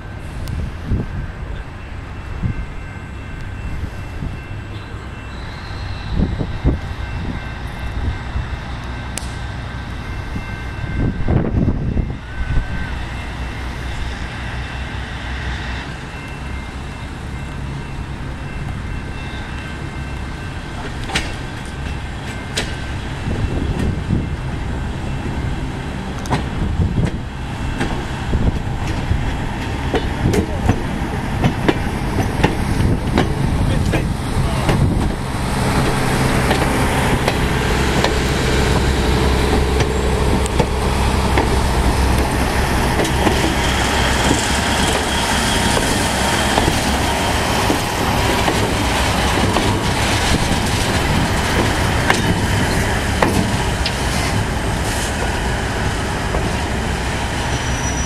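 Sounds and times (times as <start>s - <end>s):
locomotive engine rumble: 0.0s - 58.0s
train cars rolling on track: 0.0s - 58.0s.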